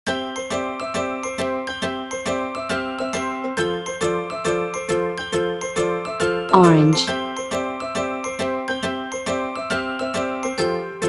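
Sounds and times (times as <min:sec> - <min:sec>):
chiming bell-like melody: 0:00.1 - 0:11.0.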